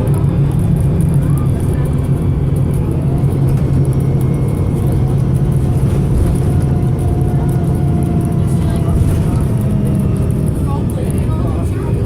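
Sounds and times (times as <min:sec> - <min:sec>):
misfiring diesel engine drone: 0:00.0 - 0:12.0.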